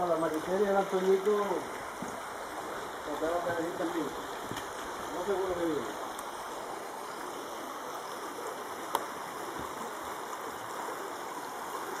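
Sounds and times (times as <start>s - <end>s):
river flowing over stones: 0.0s - 12.0s.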